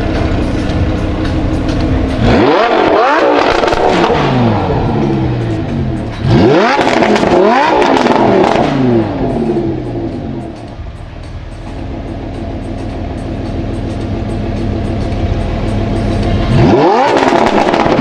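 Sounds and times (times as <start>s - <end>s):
exhaust crackles: 0.0s - 18.0s
sports car engine revving: 0.0s - 18.0s.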